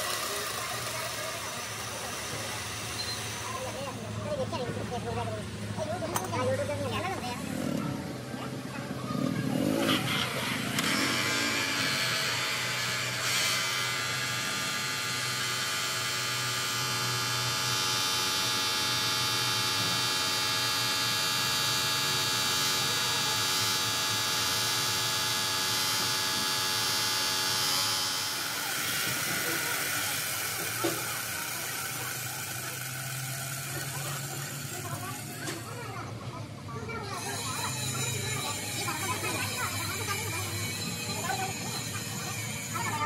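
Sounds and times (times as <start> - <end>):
angle grinder whine: 0.0 - 8.3, 9.0 - 35.8, 37.0 - 43.0.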